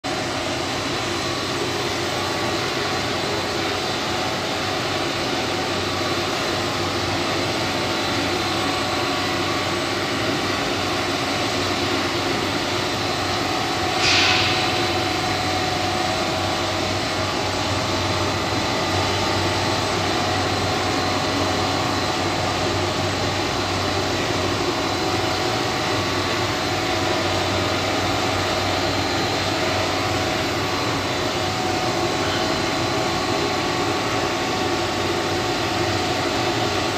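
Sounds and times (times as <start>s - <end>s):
machine humming with high whine: 0.1s - 36.9s.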